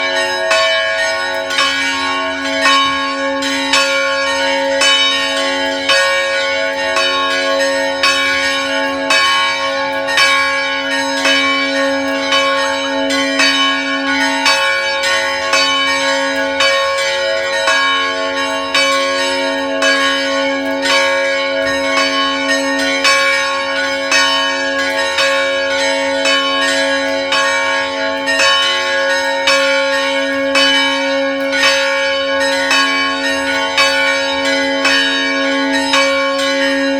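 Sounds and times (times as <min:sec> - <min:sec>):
church bells ringing: 0:00.0 - 0:36.9.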